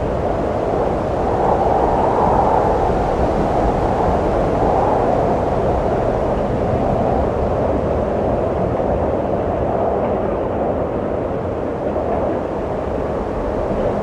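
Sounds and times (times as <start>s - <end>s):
rushing wind: 0.0s - 14.0s.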